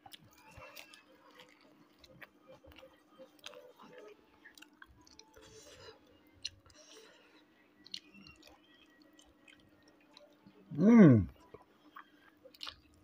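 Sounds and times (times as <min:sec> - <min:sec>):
soft chewing with mouth clicks: 0:00.0 - 0:13.0.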